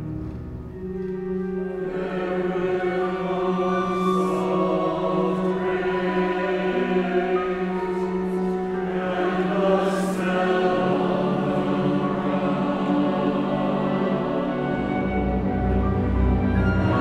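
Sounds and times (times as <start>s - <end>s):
choir and orchestra slow choral piece: 0.0s - 17.0s.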